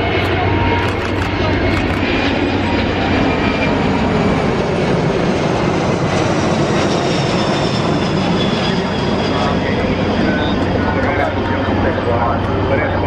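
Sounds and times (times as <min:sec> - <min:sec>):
aircraft engine noise: 0:00.0 - 0:13.0.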